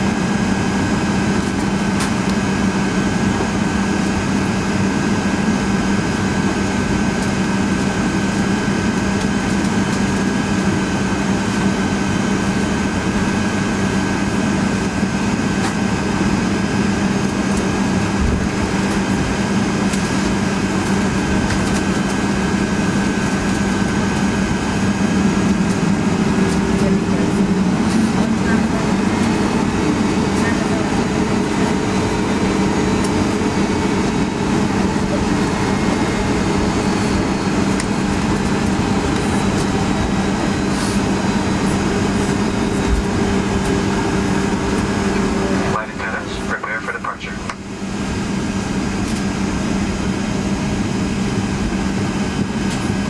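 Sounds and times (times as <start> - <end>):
high engine whine: 0.0 - 53.0
jet engines droning: 0.0 - 53.0.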